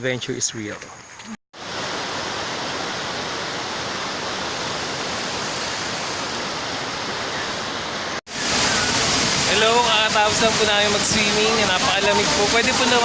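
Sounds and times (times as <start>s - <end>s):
waterfall rushing: 1.6s - 13.0s.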